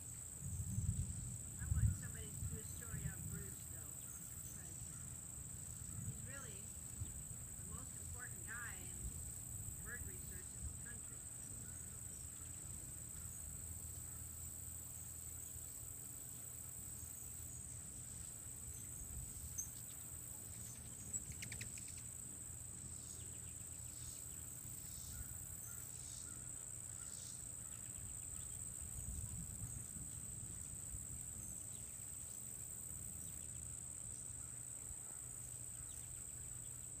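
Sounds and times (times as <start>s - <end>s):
insects trilling: 0.0s - 37.0s.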